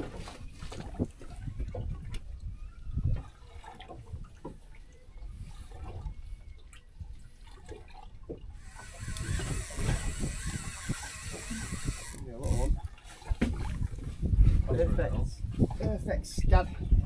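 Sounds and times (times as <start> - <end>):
water sloshing around a boat: 0.0 - 17.0.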